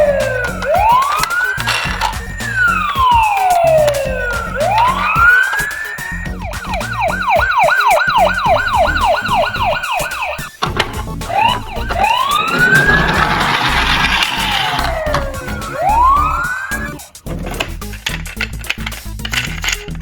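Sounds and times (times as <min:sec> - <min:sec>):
ambulance siren: 0:00.0 - 0:17.1
background music: 0:00.0 - 0:20.0.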